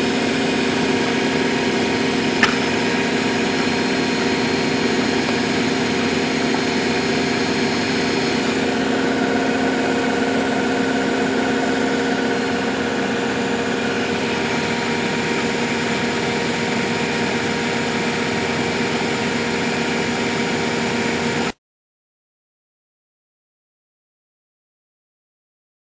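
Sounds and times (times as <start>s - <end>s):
washing machine running: 0.0s - 21.6s.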